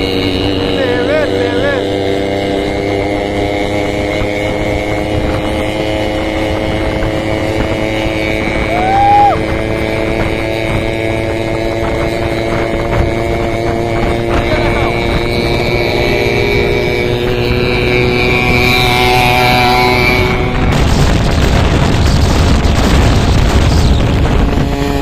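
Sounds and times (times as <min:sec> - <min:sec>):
motorcycle engines running: 0:00.0 - 0:25.0.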